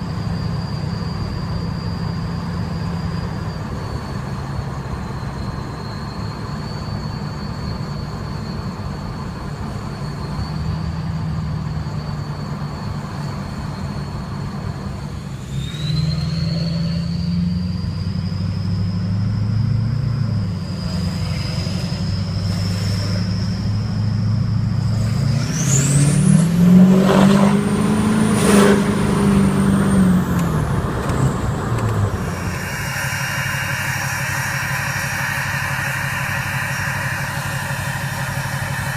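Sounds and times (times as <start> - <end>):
diesel engine running: 0.0 - 38.9
high turbo whistle: 0.0 - 38.9.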